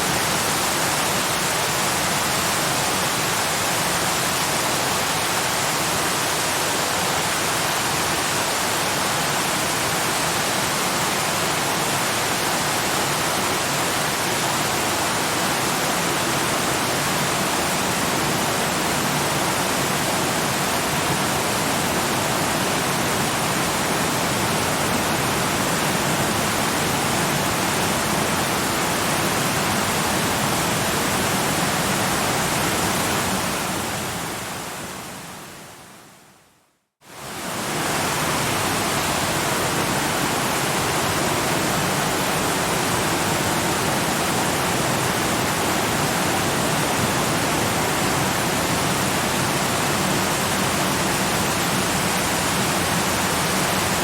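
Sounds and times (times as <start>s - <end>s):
waterfall rushing: 0.0s - 35.6s, 37.1s - 54.0s.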